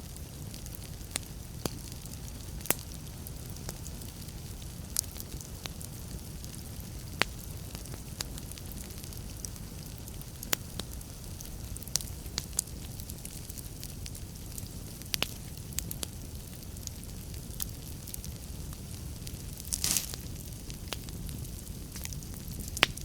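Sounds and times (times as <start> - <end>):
fire crackles and pops: 0.0 - 23.0
fire flames rumbling: 0.0 - 23.0.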